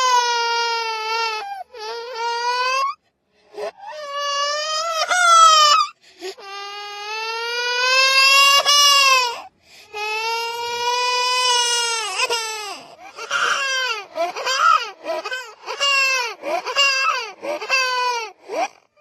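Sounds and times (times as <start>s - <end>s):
small child crying: 0.0s - 18.8s.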